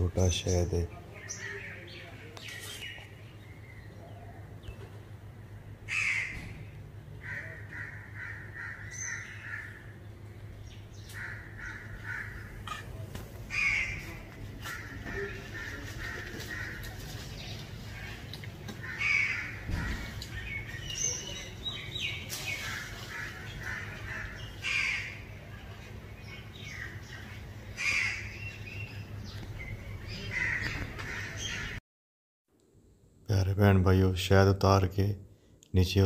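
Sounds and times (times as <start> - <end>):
birds calling: 0.0 - 31.8
low background noise: 0.0 - 31.8, 32.5 - 36.0.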